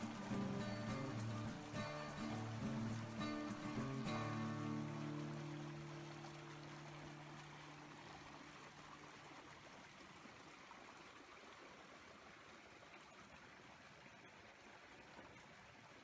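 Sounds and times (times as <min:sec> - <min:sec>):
faint creek murmur: 0:00.0 - 0:16.0.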